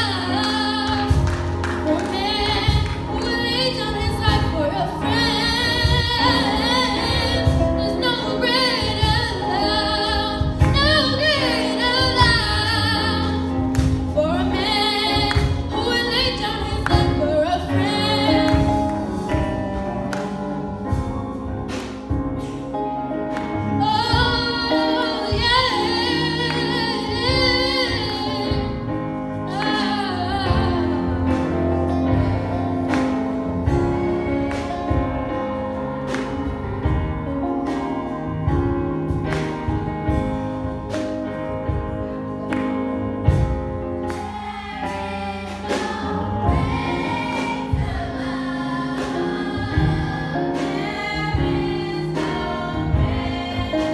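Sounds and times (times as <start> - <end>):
women singing gospel song: 0.0 - 21.8, 23.3 - 41.0, 43.1 - 53.9
instrumental backing with steady beat: 0.0 - 53.9.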